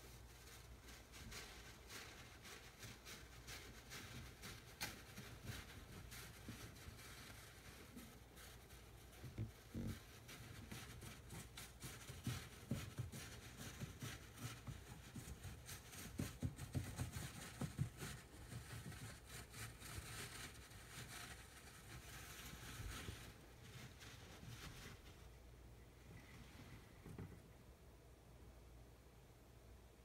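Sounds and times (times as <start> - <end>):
paper bedding rustling: 0.0 - 25.5.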